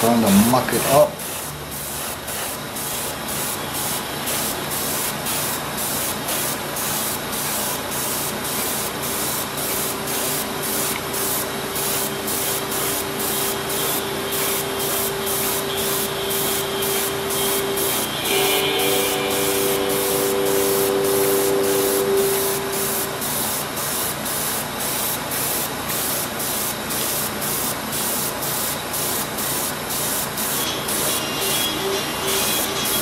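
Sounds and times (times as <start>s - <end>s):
airbrush spraying hiss: 0.4s - 33.0s.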